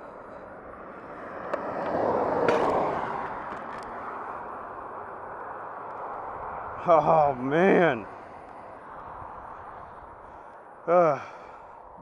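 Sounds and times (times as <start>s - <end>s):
vehicle passing by: 0.0s - 11.9s.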